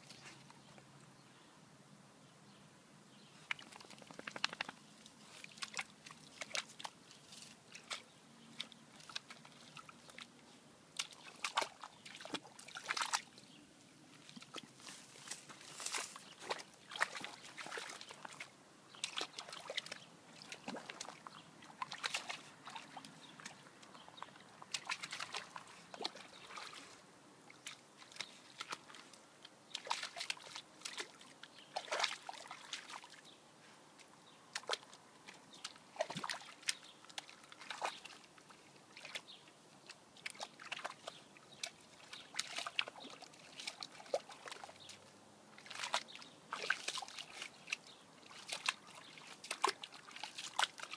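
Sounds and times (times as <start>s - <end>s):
dog splashing in a puddle: 3.4s - 13.5s, 14.1s - 33.4s, 34.5s - 50.9s.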